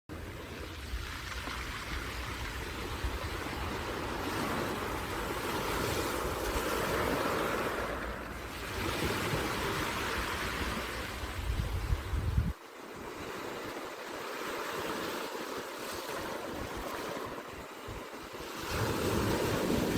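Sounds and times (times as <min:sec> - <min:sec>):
sea waves breaking on shore: 0:00.1 - 0:19.9.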